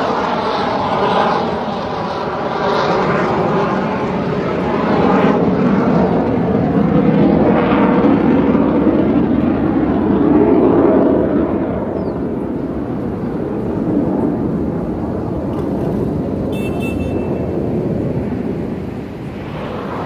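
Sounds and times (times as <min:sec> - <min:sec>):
plane flying overhead: 0:00.0 - 0:20.0.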